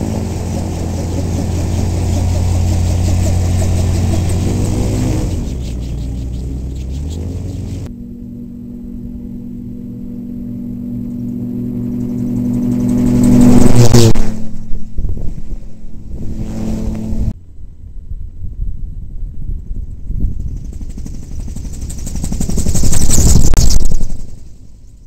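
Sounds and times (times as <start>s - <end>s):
rotor whooshing chop: 0.0s - 17.4s, 20.0s - 24.6s
gyrocopter flying by: 0.0s - 25.0s.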